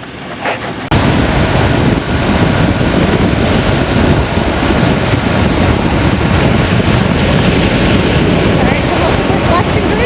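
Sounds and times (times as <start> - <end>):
road noise: 0.0 - 10.0
wind rushing over microphone: 0.0 - 10.0.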